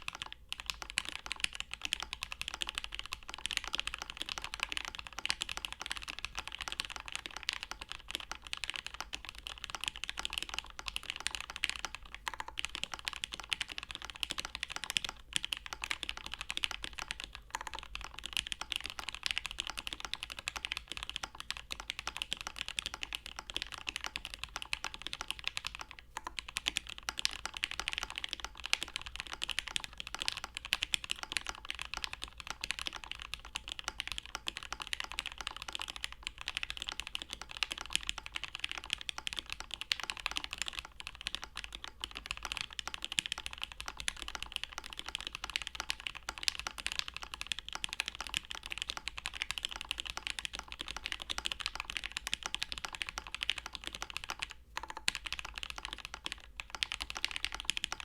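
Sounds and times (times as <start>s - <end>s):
fast mechanical keyboard typing: 0.0s - 58.0s.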